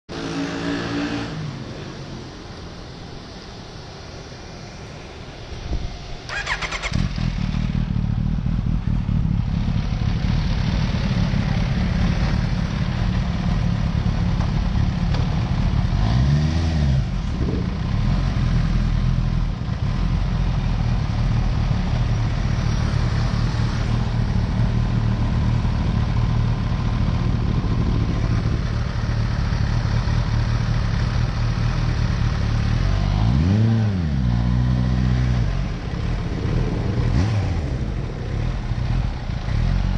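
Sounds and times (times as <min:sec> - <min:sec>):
motorcycle engine revving: 0:00.1 - 0:01.8, 0:06.3 - 0:39.9.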